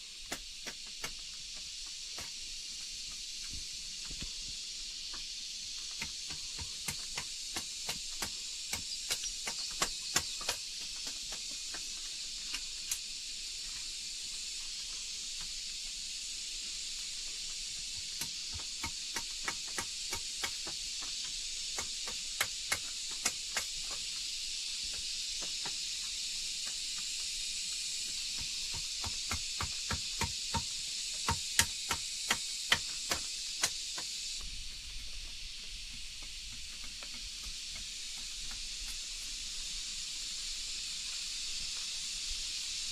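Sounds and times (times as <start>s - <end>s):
steady high hiss: 0.0s - 42.9s.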